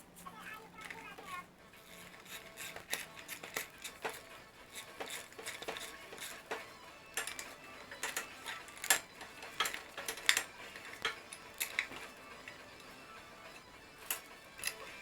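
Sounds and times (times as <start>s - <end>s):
metallic clicks and clinks: 1.9s - 15.0s.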